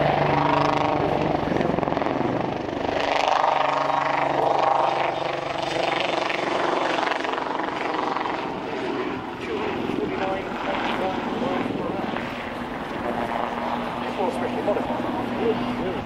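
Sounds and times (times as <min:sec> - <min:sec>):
helicopter rotor beat: 0:00.0 - 0:16.0
turbine engine whine: 0:00.0 - 0:16.0.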